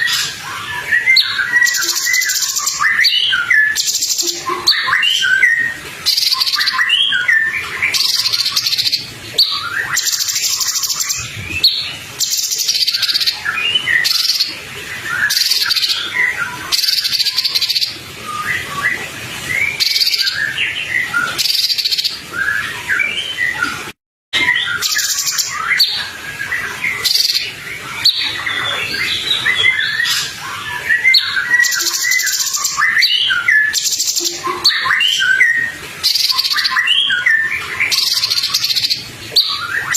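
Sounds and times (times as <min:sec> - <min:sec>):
songbird singing: 0:00.0 - 0:18.9, 0:24.5 - 0:39.9.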